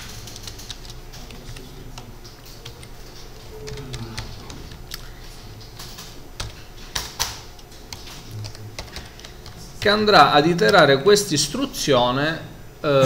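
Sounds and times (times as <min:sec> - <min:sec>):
computer keyboard typing: 0:00.0 - 0:11.2.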